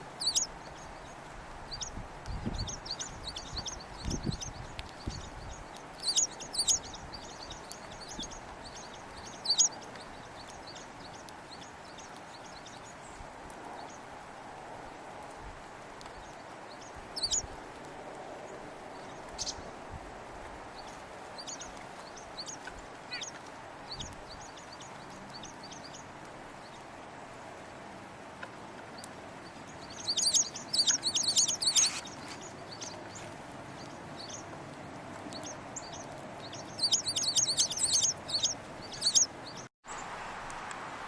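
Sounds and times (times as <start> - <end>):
songbirds chip calls: 0.0 - 14.1, 16.0 - 17.9, 18.5 - 19.8, 20.7 - 39.7.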